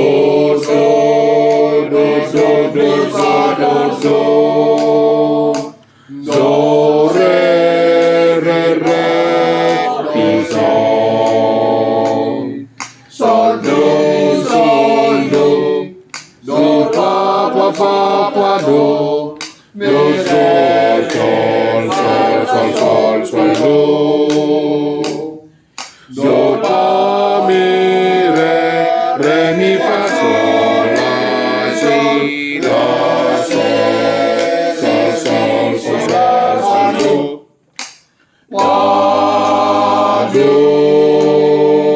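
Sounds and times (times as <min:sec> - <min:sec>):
men's choir singing a cappella: 0:00.0 - 0:37.7, 0:38.3 - 0:41.9.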